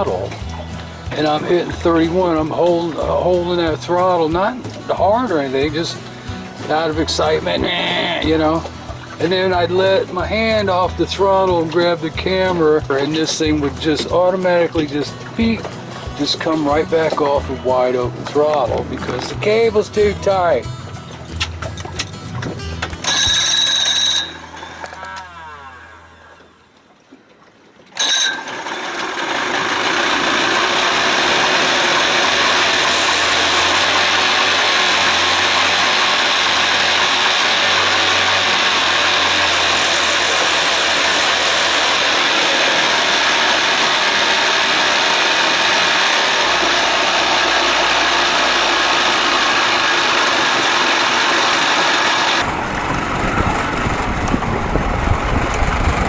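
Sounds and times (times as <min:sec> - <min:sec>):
outboard motor running: 0:00.0 - 0:26.9, 0:28.0 - 0:56.0.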